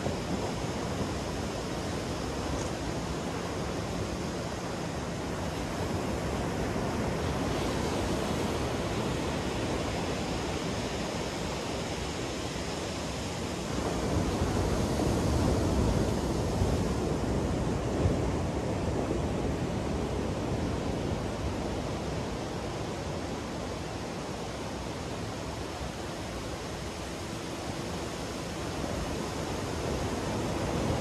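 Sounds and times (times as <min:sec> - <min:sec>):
waves breaking on beach: 0:00.0 - 0:31.0.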